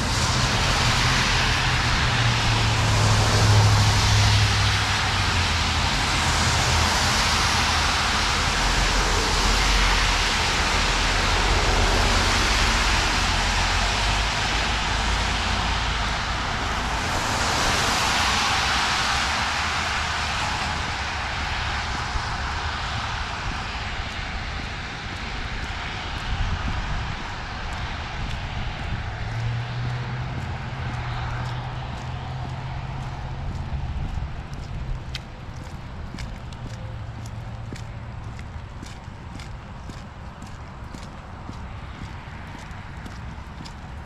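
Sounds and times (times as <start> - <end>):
cars passing on wet road: 0.0 - 44.0
low engine rumble: 0.0 - 44.0.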